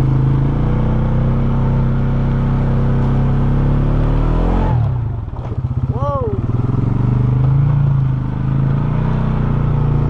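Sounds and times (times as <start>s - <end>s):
atv engine pulling uphill: 0.0s - 10.0s.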